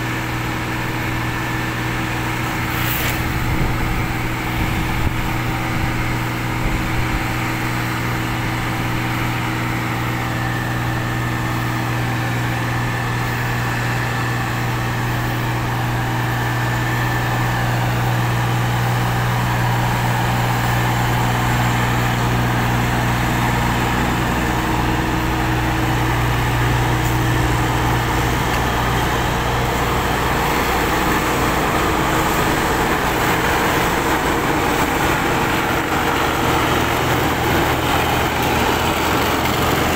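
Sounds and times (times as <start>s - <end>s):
heavy diesel engines droning: 0.0s - 39.9s
rough broad engine noise: 0.0s - 39.9s.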